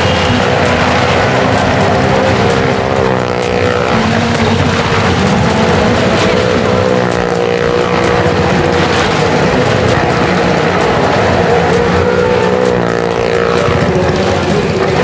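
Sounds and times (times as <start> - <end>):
car and motorcycle engines revving: 0.0 - 15.0.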